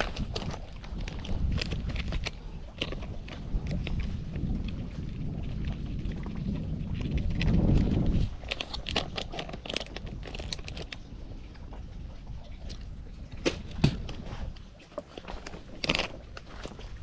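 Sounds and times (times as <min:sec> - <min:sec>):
low rumble: 0:00.0 - 0:14.8.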